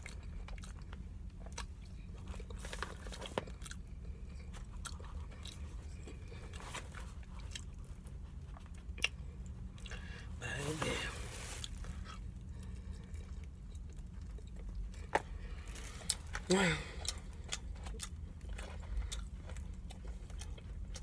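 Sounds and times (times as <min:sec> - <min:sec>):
person chewing: 0:00.0 - 0:10.4, 0:11.4 - 0:21.0
steady low hum: 0:00.0 - 0:21.0.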